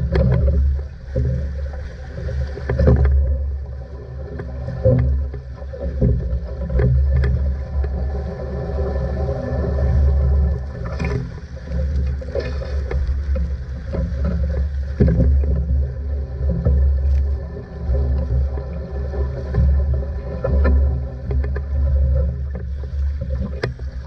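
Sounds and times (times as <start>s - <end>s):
water splashing along hull: 0.0s - 24.0s.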